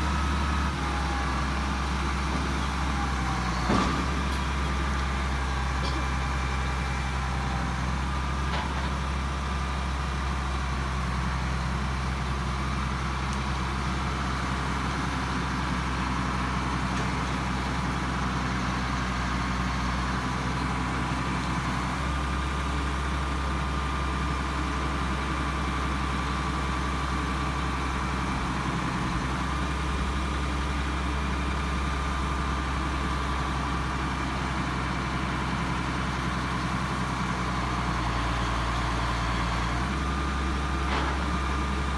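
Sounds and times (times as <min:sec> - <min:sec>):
large engine idling: 0:00.0 - 0:41.9.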